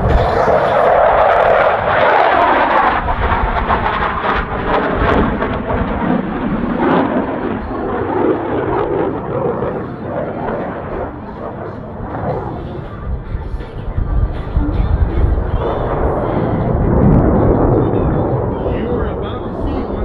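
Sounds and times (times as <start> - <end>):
jet engines at high power: 0.0 - 20.0.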